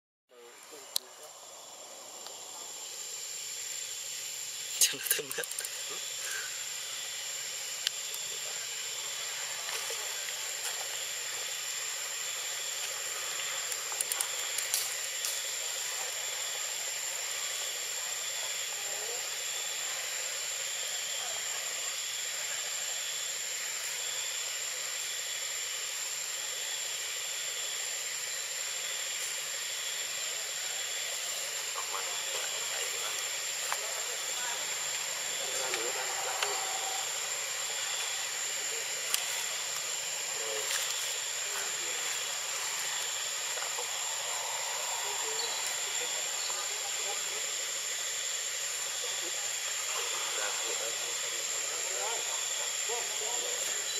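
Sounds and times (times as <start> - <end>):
forest insects droning: 0.3 - 53.9.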